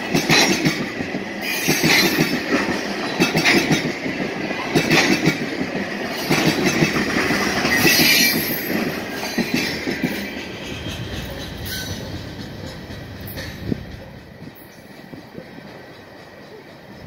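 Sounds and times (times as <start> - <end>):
train wheels clattering over rails: 0.0 - 17.0.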